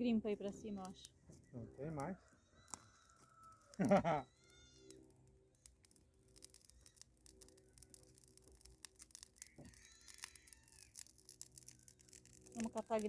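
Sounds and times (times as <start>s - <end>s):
bonfire crackling: 0.0s - 13.0s.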